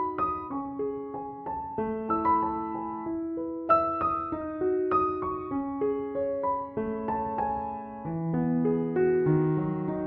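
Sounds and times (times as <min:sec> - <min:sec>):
slow gentle piano music: 0:00.0 - 0:10.0.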